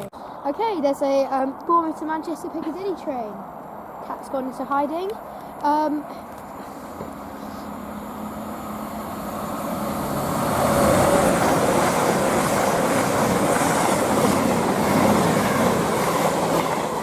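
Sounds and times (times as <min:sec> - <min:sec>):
diesel train passing: 0:00.0 - 0:17.0.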